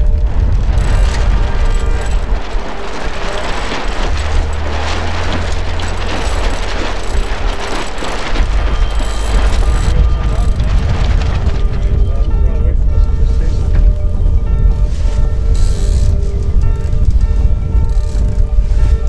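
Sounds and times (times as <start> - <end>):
water splashing along hull: 0.0 - 19.0
wind buffeting microphone: 0.0 - 19.0.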